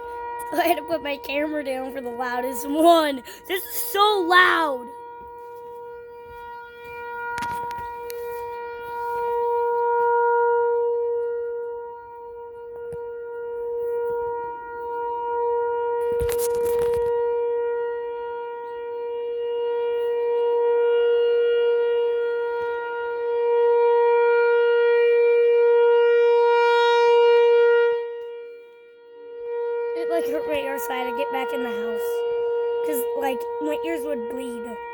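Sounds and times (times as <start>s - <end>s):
loud warning siren tone: 0.0s - 34.9s.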